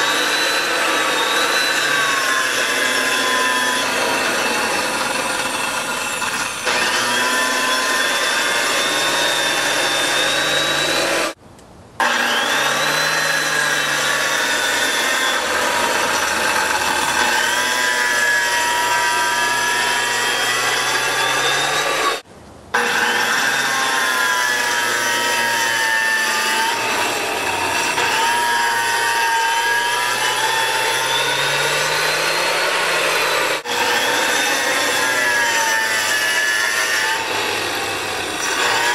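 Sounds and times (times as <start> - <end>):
circular saw cutting concrete: 0.0 - 11.4, 12.0 - 38.9.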